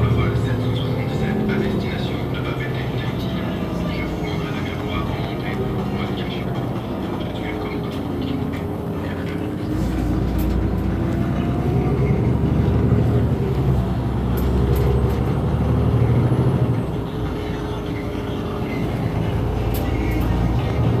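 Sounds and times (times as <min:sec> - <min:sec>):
bus diesel engine idling: 0:00.0 - 0:21.0.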